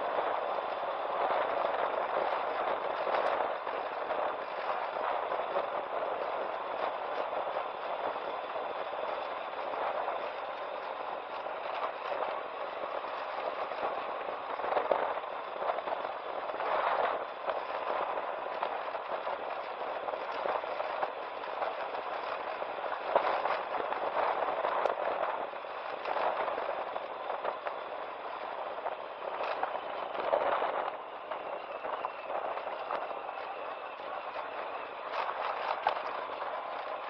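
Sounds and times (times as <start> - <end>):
wind noise: 0.0 - 37.0.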